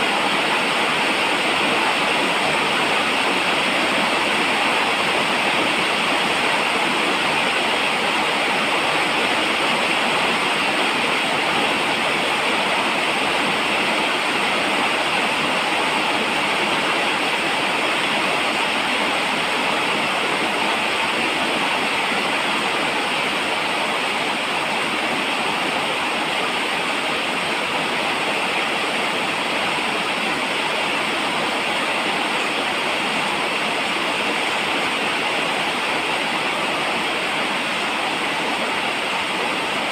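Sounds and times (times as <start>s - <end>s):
steady falling rain: 0.0s - 39.9s.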